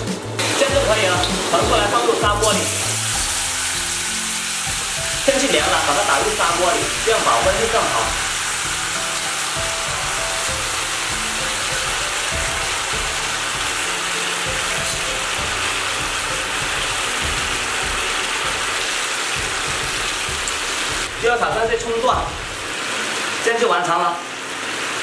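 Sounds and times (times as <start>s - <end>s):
soft background music: 0.0s - 24.3s
food sizzling in a clay pot: 0.0s - 25.0s.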